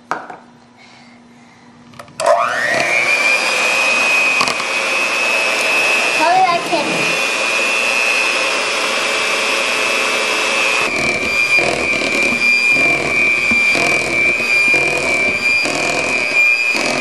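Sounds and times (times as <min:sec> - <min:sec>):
electric mixer whining in batter: 0:02.2 - 0:17.0.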